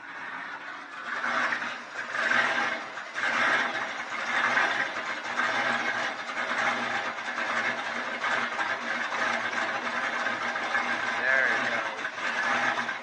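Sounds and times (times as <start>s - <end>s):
engine idling unevenly: 0.0s - 13.0s.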